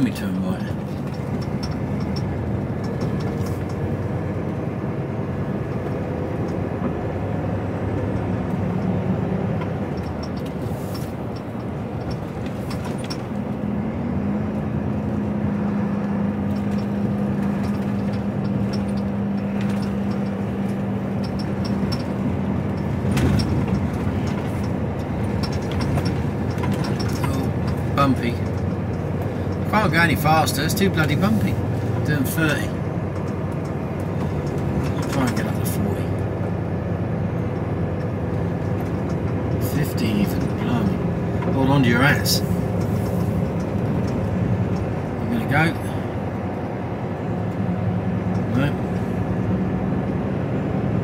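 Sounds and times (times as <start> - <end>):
light clicks and rattles: 0.0 - 4.7, 5.4 - 13.8, 14.5 - 49.2
lorry engine and road noise: 0.0 - 51.0.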